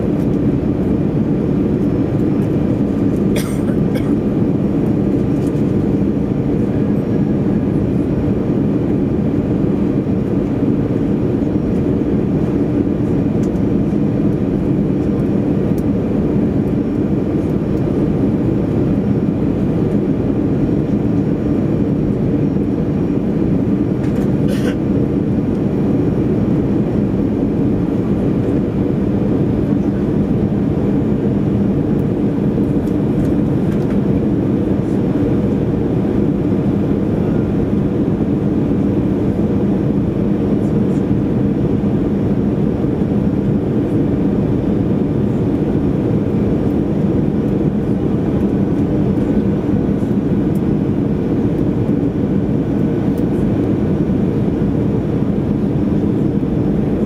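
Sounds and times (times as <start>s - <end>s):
jet engine and airflow drone: 0.0s - 57.0s.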